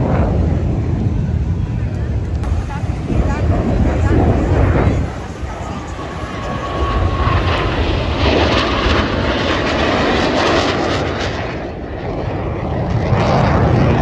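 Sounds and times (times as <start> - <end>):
airplane engine rumble: 0.0 - 14.0.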